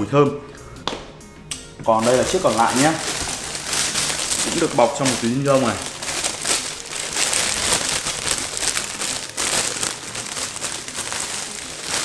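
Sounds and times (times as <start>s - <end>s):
plastic bag crinkling: 1.9s - 12.0s.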